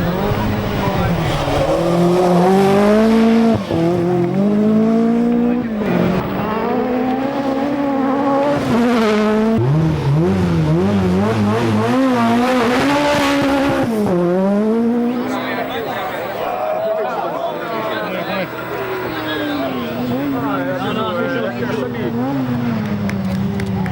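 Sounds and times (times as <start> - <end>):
rally car engine revving: 0.0 - 23.9.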